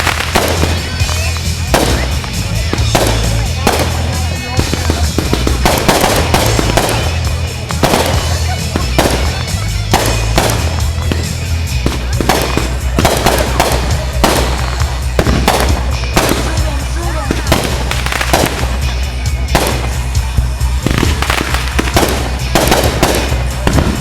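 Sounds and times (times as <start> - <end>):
fireworks bangs: 0.0 - 24.0
music with heavy bass: 0.0 - 24.0.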